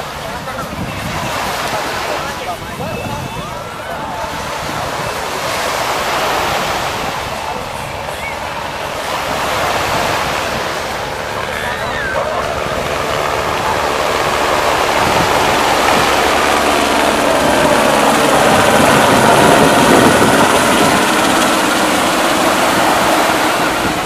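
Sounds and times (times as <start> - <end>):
helicopter flying past: 0.0 - 24.0.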